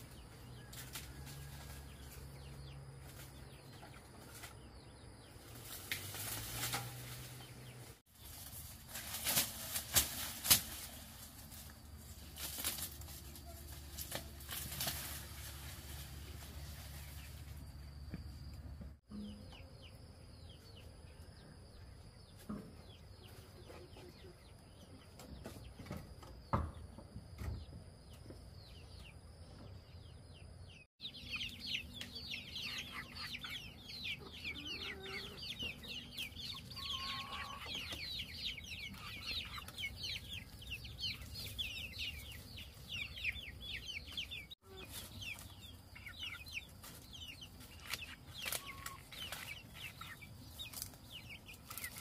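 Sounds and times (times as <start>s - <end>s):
chickens chirping: 0.0s - 52.0s.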